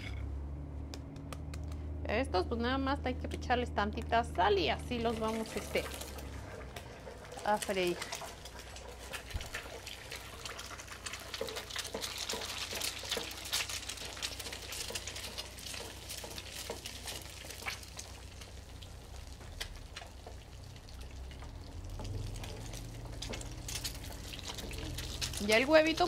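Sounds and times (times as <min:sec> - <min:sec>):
oil popping and crackling: 0:03.3 - 0:26.0
eggs sizzling in a frying pan: 0:04.2 - 0:26.0.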